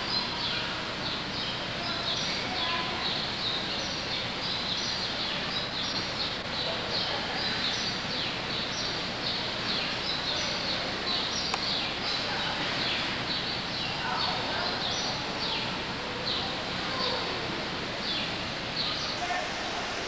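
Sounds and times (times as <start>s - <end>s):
small birds chirping: 0.0s - 19.8s
constant hiss: 0.0s - 20.0s.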